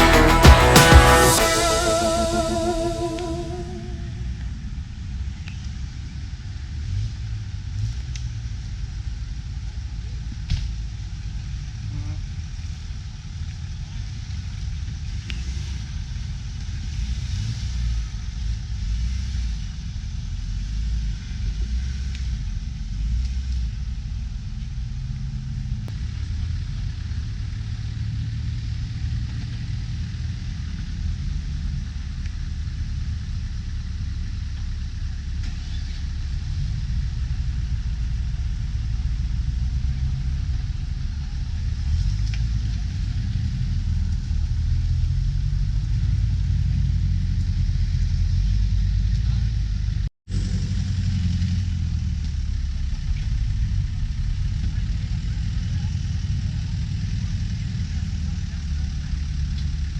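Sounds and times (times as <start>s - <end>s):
off-road vehicle rumble: 4.1s - 59.9s.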